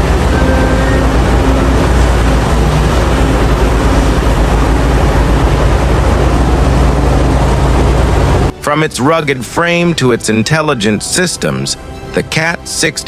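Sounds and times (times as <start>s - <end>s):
diesel machinery engine drone: 0.0s - 12.6s.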